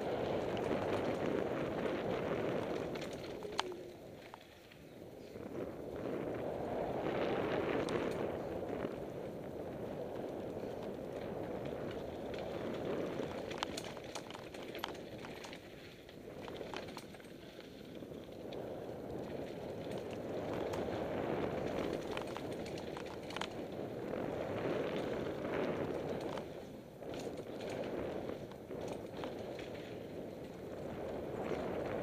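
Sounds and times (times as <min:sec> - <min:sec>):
bike rattles and clicks: 0:00.0 - 0:32.0
bike tyres rumbling on trail: 0:00.0 - 0:32.0
wind on microphone: 0:00.0 - 0:32.0.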